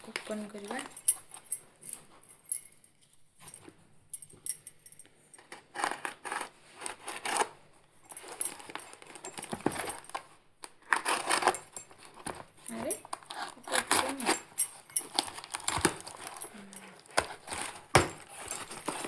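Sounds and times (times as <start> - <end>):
packaging rustling and scraping: 0.0 - 2.3, 5.4 - 19.0.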